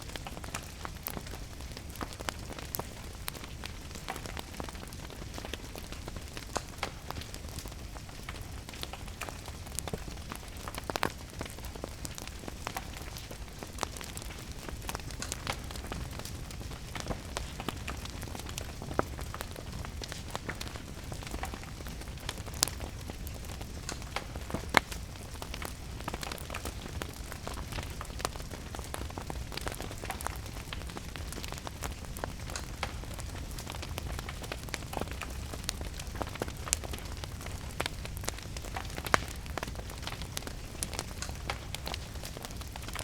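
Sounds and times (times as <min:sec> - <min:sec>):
steady rain: 0:00.0 - 0:43.0
wood fire crackling: 0:00.0 - 0:43.0.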